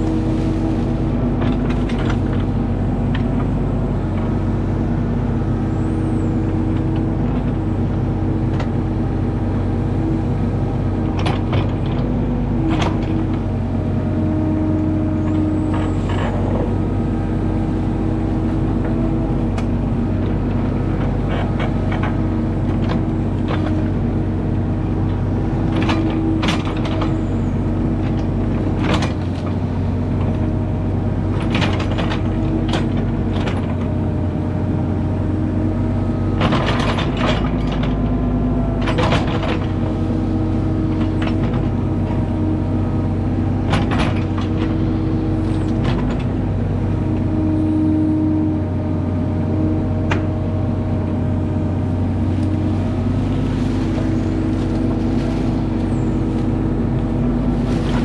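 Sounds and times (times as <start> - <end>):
diesel engine running: 0.0 - 58.0
hydraulics whining: 0.0 - 58.0.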